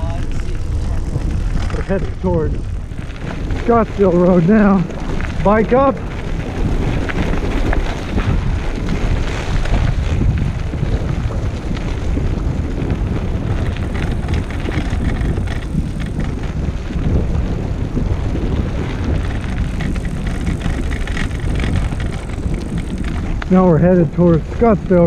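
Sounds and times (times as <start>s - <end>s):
tyres rolling on dirt trail: 0.0s - 25.0s
wind buffeting microphone: 0.0s - 25.0s.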